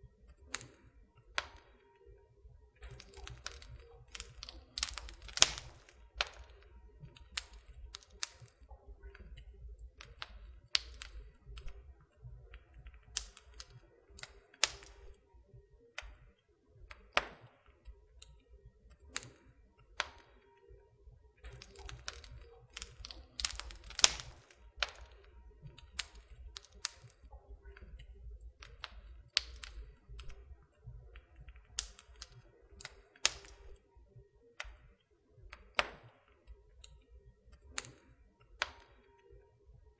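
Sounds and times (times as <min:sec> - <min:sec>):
faint low rumble: 0:00.0 - 0:38.6
wood fire crackling: 0:00.2 - 0:20.6, 0:21.2 - 0:34.0, 0:34.6 - 0:39.3.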